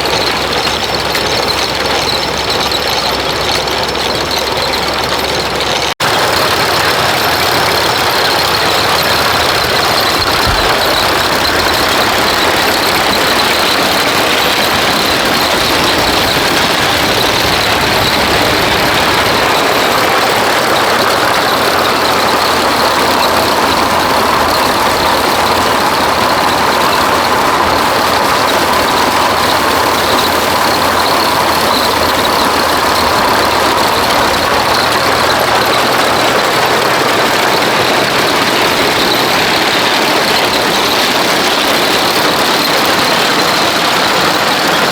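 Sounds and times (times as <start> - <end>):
thresher machine running: 0.0 - 44.9.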